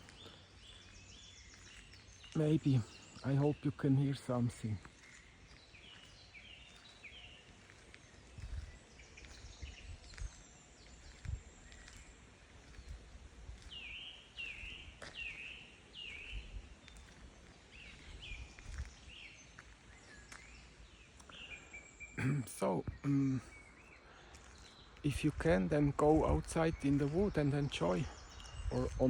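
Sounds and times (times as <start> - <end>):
birds singing: 0.0 - 29.0.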